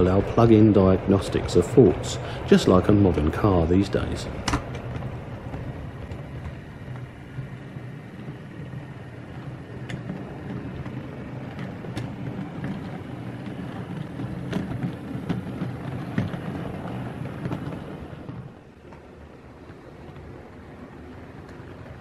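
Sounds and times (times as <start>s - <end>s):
model train low drone: 0.0s - 22.0s
wheels clicking on track: 0.0s - 22.0s.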